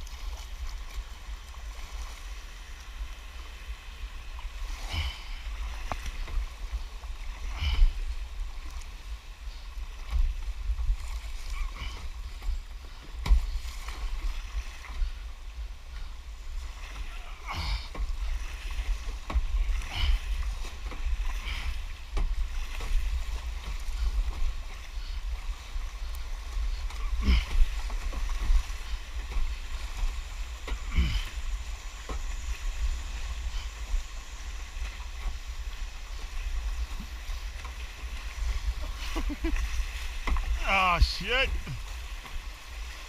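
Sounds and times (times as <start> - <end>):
low rumble of moving water: 0.0 - 43.0
paddle strokes splashing: 0.0 - 43.0.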